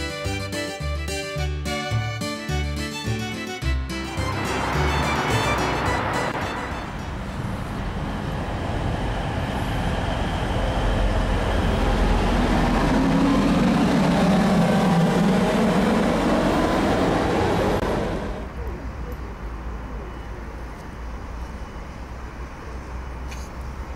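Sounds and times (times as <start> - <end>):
train engine and wheel rumble: 0.0 - 23.9.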